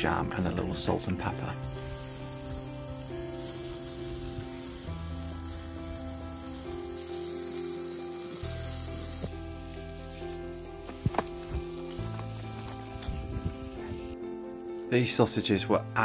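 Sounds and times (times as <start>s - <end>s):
background music: 0.0s - 16.0s
sausages sizzling on a grill: 0.0s - 16.0s.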